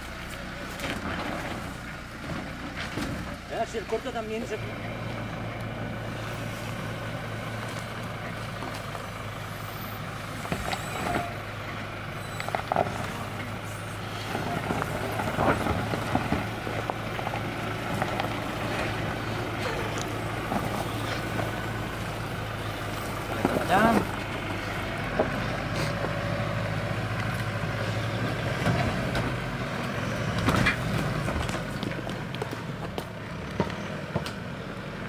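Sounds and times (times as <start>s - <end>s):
stones crunching under tyres: 0.0s - 34.6s
pickup engine idling: 0.0s - 35.0s.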